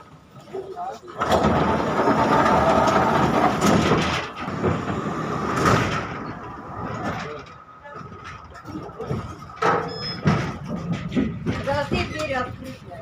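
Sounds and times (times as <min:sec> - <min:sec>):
tram rolling along track: 0:00.0 - 0:13.0.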